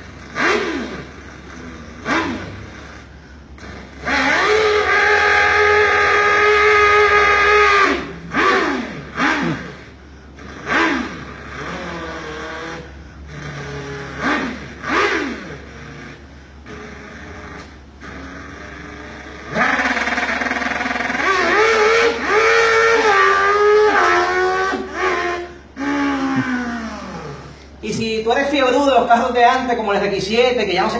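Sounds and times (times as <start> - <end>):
man imitating motorcycle engine: 0.0 - 29.8.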